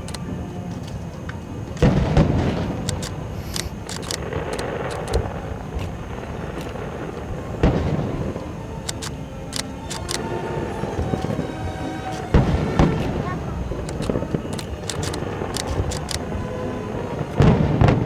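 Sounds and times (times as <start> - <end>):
firework crackling pops: 1.7 - 18.0
firework booms: 1.8 - 18.0.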